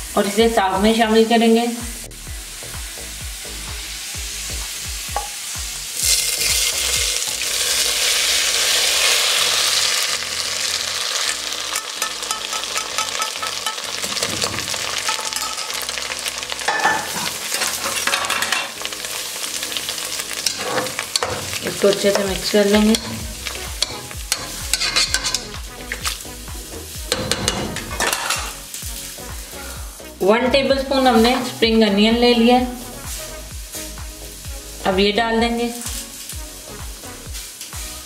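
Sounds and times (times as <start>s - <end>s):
hot ghee sizzling and crackling: 0.0s - 38.0s.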